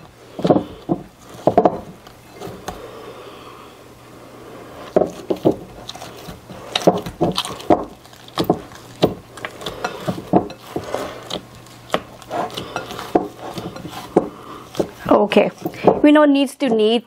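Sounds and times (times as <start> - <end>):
hands kneading dough: 0.0 - 3.5, 4.2 - 16.2.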